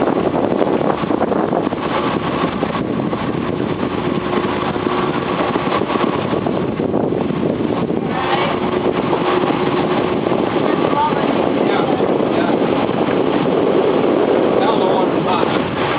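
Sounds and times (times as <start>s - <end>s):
boat engine running: 0.0s - 15.9s
water noise: 0.0s - 15.9s
wind: 0.0s - 15.9s.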